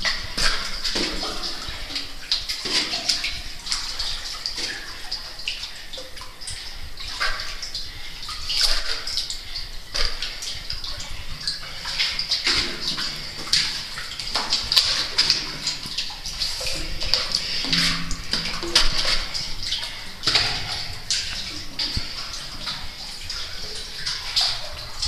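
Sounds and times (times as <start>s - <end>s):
flowing water rushing: 0.0s - 25.0s
water sloshing and splashing: 0.0s - 25.0s.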